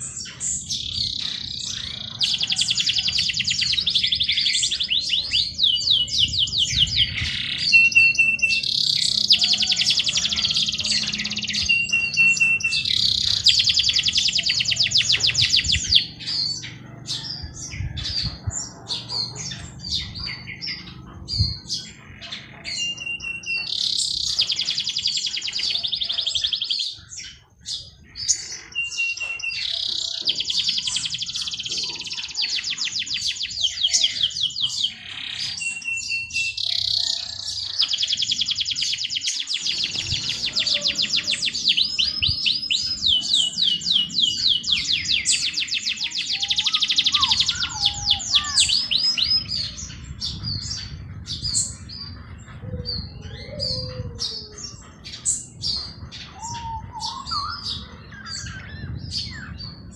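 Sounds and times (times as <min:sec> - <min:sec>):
bird song with fast trill: 0:00.0 - 0:59.9
birds chirping: 0:00.0 - 0:59.9.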